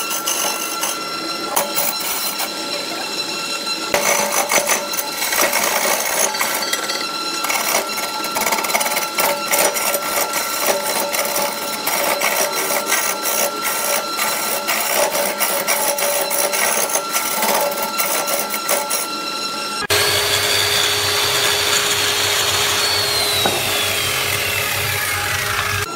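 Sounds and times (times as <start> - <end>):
turning tool scraping wood: 0.0 - 19.3, 20.8 - 25.9
wood lathe whine: 0.0 - 25.9.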